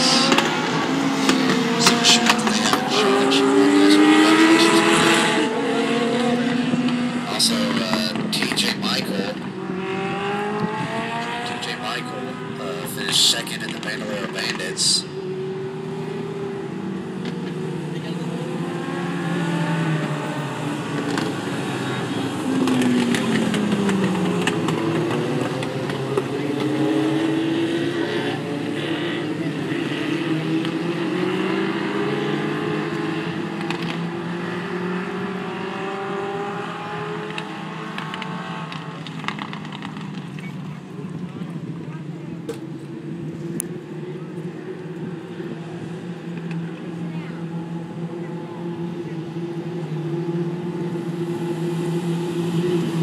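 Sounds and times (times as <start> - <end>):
race car engines revving past: 0.0 - 53.0.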